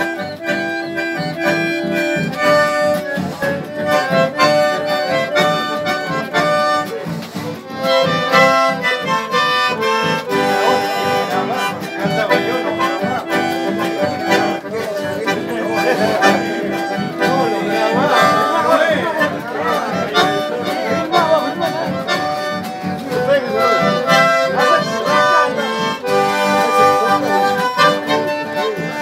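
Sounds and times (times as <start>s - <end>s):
bandoneons playing: 0.0s - 29.0s.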